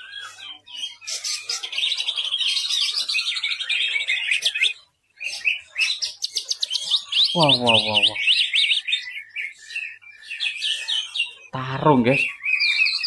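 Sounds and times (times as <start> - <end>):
bird singing high varied notes: 0.0 - 13.0.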